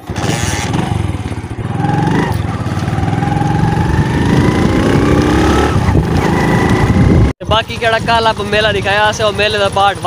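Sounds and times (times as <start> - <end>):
motorcycle engine accelerating: 0.0 - 8.7.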